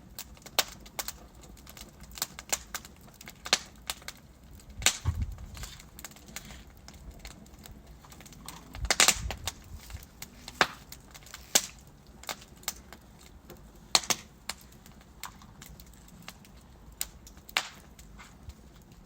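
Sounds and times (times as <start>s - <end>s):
wood fire crackling: 0.0s - 19.0s
logs popping: 0.2s - 19.0s.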